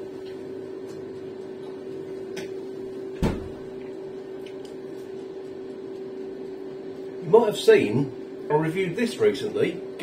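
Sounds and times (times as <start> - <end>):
air fryer humming: 0.0 - 10.0.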